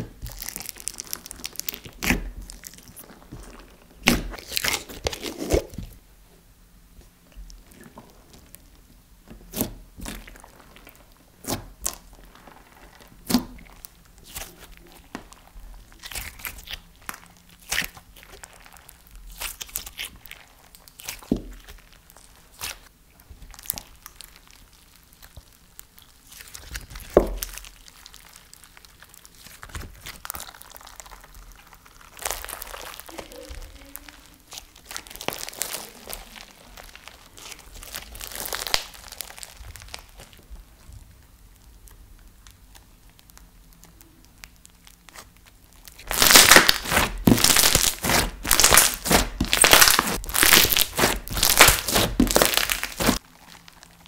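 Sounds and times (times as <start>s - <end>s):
slime crackling when stretched: 0.0s - 6.0s, 7.4s - 54.0s
slime squishing with wet pops: 0.0s - 6.0s, 6.9s - 54.0s.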